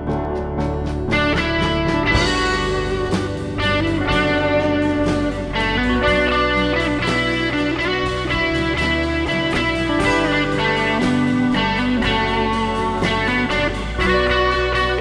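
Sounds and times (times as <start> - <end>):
guitar song with steady beat: 0.0 - 15.0.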